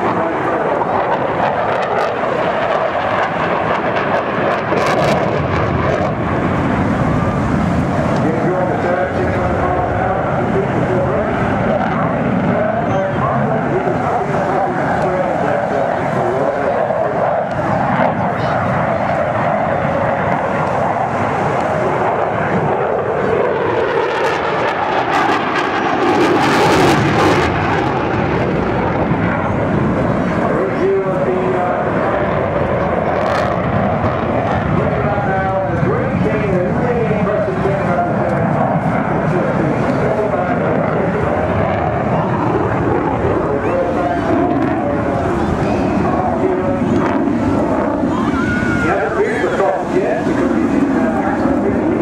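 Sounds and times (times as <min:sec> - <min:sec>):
jet flying past: 0:00.0 - 0:52.0.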